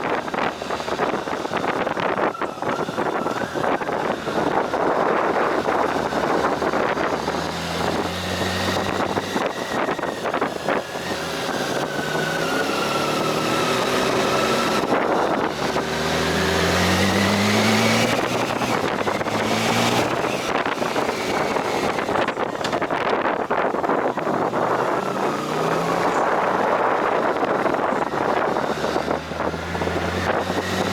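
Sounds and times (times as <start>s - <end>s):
vehicle engine climbing uphill: 0.0s - 30.9s
wind over microphone: 0.0s - 30.9s.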